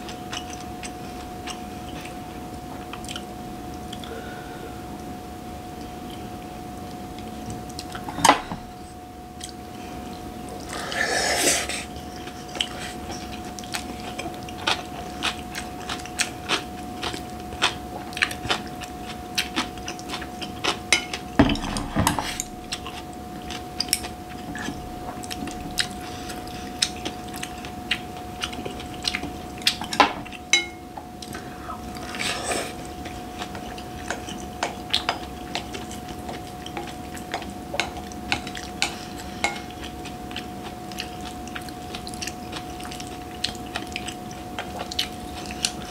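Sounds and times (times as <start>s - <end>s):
chewing: 0.0s - 4.2s, 11.8s - 45.9s
faint steady hum: 0.0s - 45.9s.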